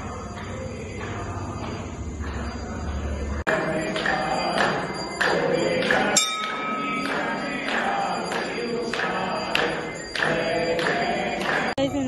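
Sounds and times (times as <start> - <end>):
percussion beat: 0.0 - 12.0.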